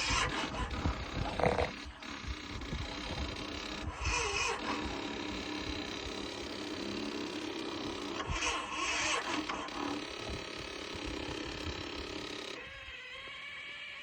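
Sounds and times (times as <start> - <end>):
motorcycle electric starter cranking: 0.0 - 14.0.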